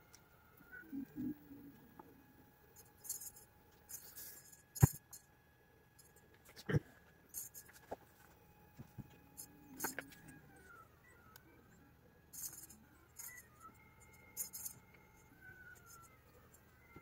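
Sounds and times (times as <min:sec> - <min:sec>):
faint thin whine: 0:00.0 - 0:17.0.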